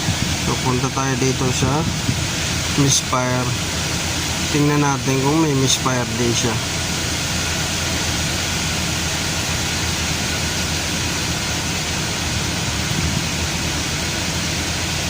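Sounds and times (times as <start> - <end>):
car engine idling: 0.0 - 15.0
hiss-like running noise: 0.0 - 15.0.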